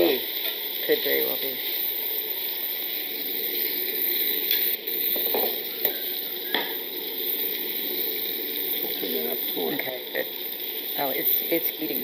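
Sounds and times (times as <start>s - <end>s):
chicken sizzling in butter: 0.0s - 12.0s.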